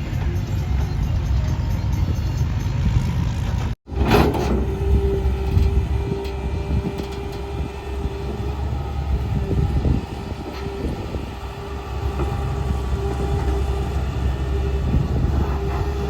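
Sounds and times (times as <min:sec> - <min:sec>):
heavy vehicle engine rumbling: 0:00.0 - 0:16.0.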